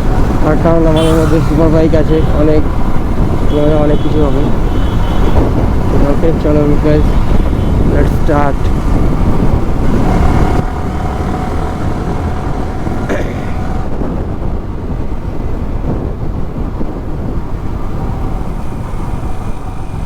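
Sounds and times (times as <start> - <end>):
motorcycle engine: 0.0 - 20.0
wind rushing over microphone: 0.0 - 20.0.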